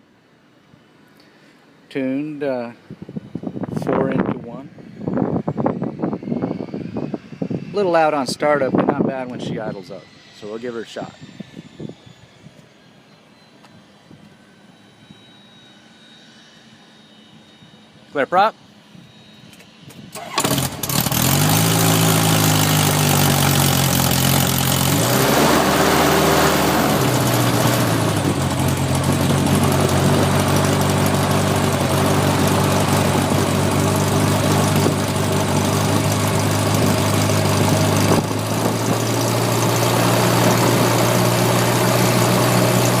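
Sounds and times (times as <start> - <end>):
aircraft engine idling: 0.0 - 43.0.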